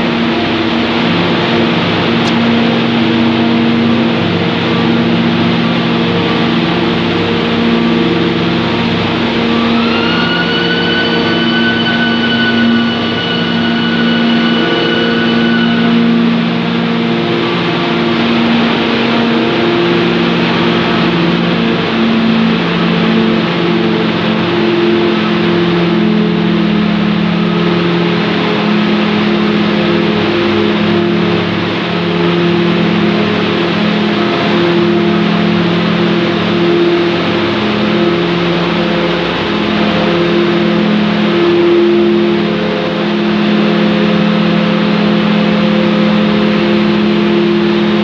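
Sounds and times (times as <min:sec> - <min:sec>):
high whining tone: 0:00.0 - 0:48.0
loud machine drone: 0:00.0 - 0:48.0.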